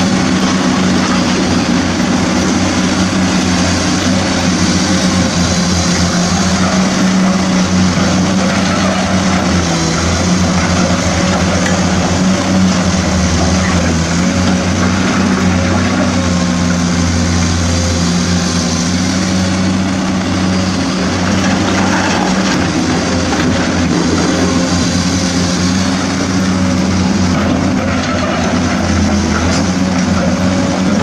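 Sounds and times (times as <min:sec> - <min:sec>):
truck motor running: 0:00.0 - 0:31.0.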